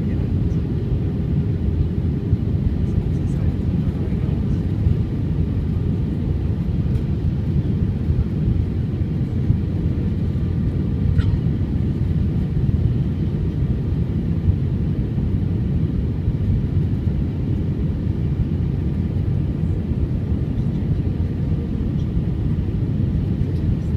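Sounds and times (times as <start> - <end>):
airliner engine rumble: 0.0 - 23.9.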